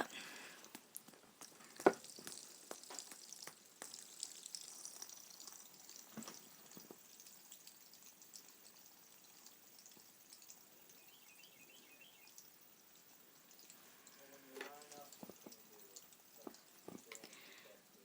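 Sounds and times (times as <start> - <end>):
soft hiss: 0.0 - 18.0.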